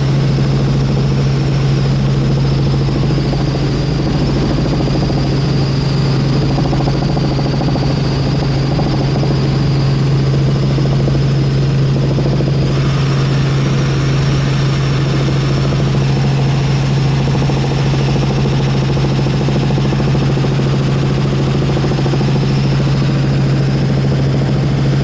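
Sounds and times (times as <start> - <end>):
helicopter engine and rotor drone: 0.0 - 25.0
high whine: 0.0 - 25.0.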